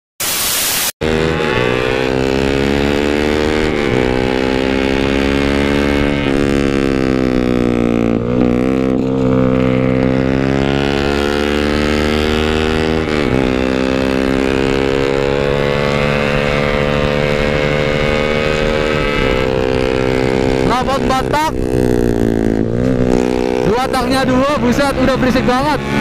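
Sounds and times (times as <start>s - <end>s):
two-stroke motorcycle engine: 1.0s - 26.0s.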